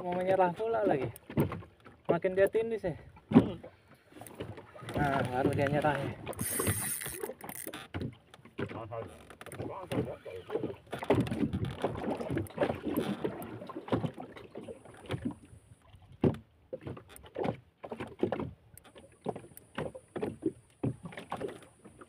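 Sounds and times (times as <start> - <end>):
water sloshing against boat hull: 0.0 - 22.0.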